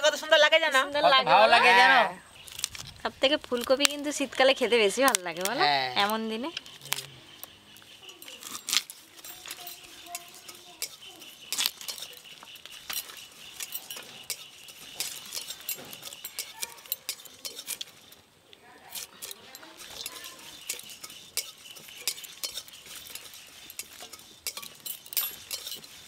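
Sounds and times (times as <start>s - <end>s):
blade cutting vegetable stems: 2.4s - 18.2s, 18.8s - 26.0s.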